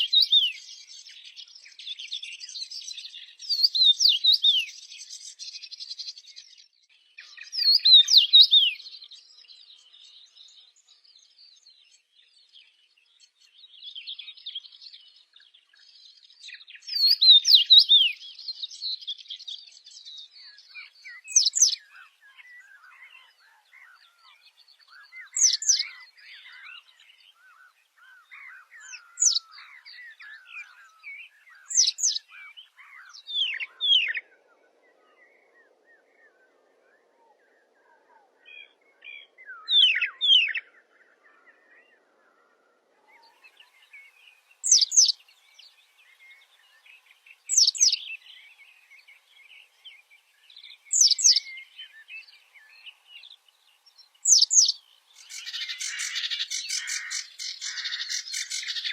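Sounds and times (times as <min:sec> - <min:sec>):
soft bird chirps: 0:00.0 - 0:58.9
songbirds singing: 0:00.0 - 0:58.9.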